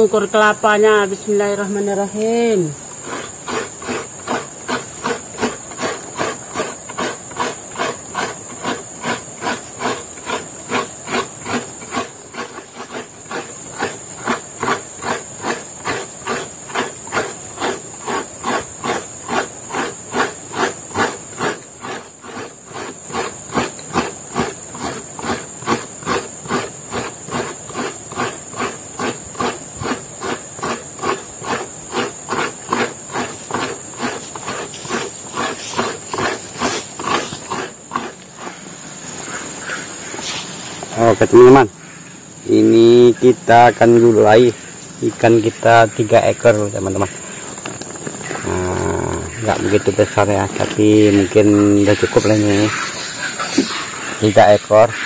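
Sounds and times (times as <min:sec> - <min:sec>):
coconut rasping on scraper: 0:00.0 - 0:55.0.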